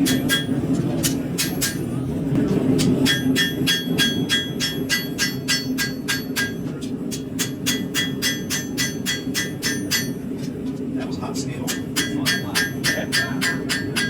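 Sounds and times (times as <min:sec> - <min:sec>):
hammer striking steel on anvil: 0:00.0 - 0:10.2, 0:11.7 - 0:14.0.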